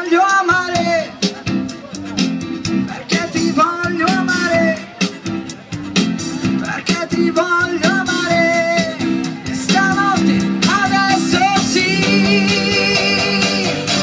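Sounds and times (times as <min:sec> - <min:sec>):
drum kit: 0:00.0 - 0:14.0.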